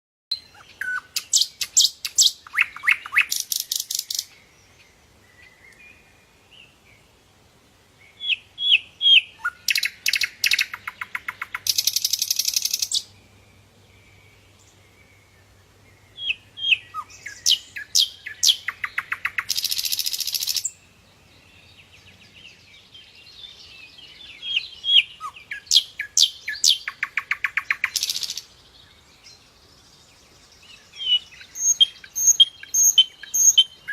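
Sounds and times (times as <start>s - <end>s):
songbird singing trilled song: 0.3s - 7.0s, 8.0s - 33.9s.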